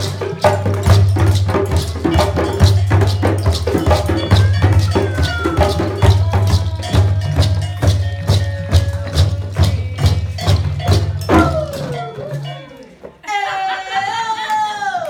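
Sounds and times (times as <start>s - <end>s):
percussion strikes: 0.0s - 13.2s.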